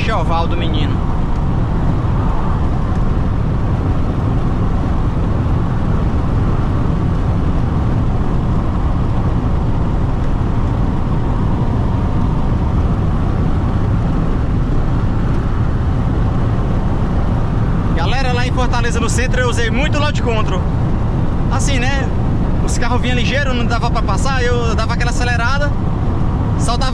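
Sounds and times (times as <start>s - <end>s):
wind and road noise inside car: 0.0s - 26.9s.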